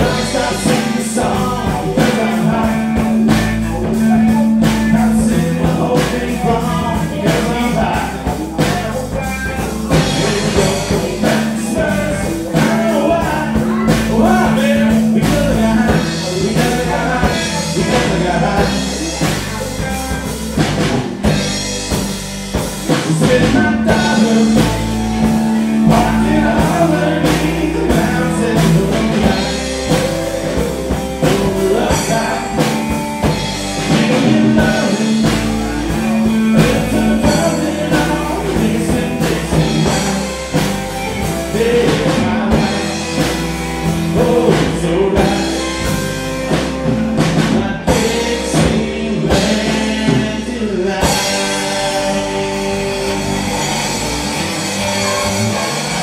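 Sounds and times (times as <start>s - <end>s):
drum kit: 0.0s - 56.0s
electric guitars: 0.0s - 56.0s
person singing: 0.0s - 56.0s.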